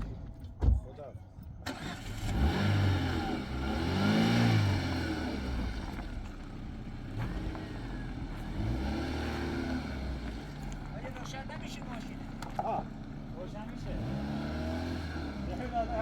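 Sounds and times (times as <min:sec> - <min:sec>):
vehicle engine revving: 0:01.6 - 0:16.0.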